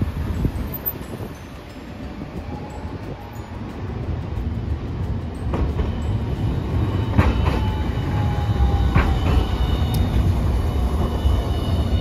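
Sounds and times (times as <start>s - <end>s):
tram running gear rumble: 0.0s - 12.0s.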